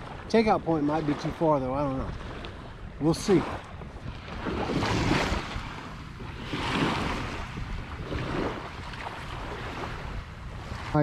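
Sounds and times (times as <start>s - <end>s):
water lapping and splashing: 0.0s - 11.0s
wind buffeting microphone: 0.0s - 11.0s.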